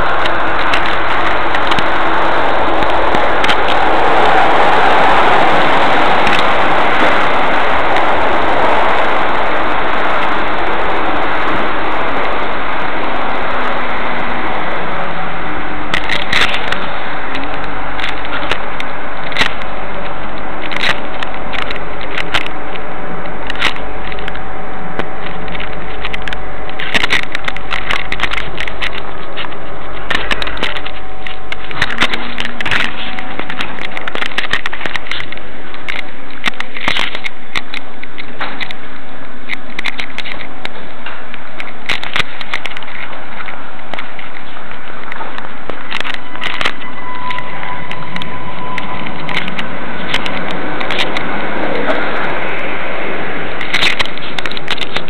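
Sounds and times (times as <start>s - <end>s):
crackles and clicks: 0.0s - 55.0s
steady loud hiss: 0.0s - 55.0s.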